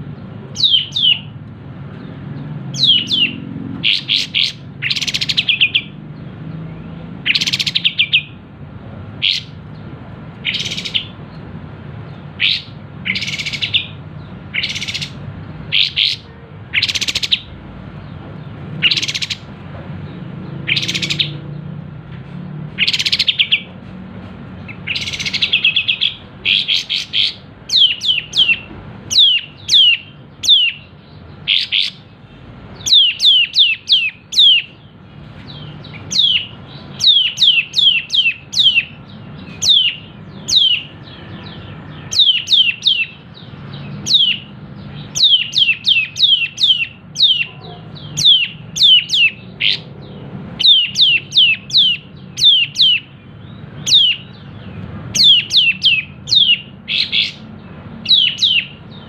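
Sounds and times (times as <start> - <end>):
songbird singing sharp notes: 0.0 - 8.4, 9.2 - 11.5, 12.1 - 21.7, 22.8 - 23.8, 24.6 - 59.0.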